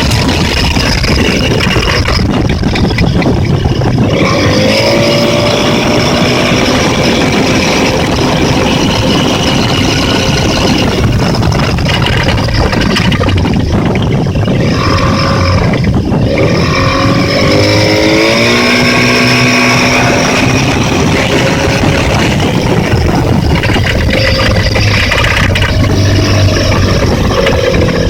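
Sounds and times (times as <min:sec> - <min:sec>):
engine knocking: 0:00.0 - 0:28.0
outboard motor running: 0:00.0 - 0:28.0.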